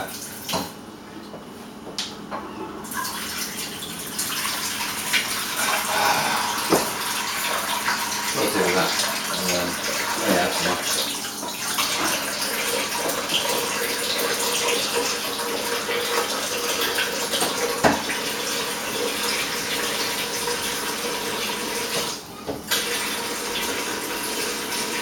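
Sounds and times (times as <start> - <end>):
tap water running into a pan: 2.9 - 25.0.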